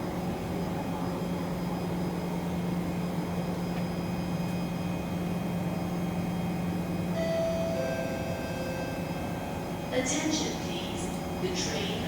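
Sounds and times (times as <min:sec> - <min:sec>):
train equipment hum: 0:00.0 - 0:12.0.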